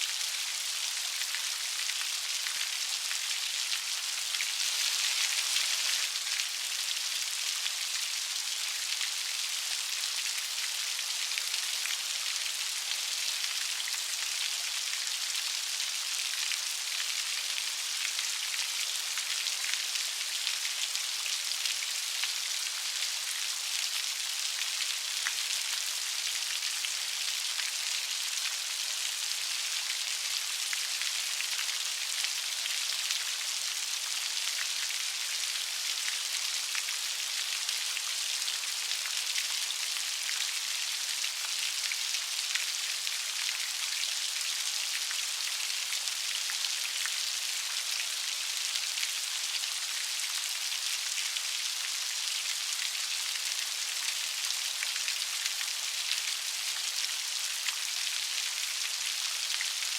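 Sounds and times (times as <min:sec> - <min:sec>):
light rain: 0:00.0 - 0:59.9.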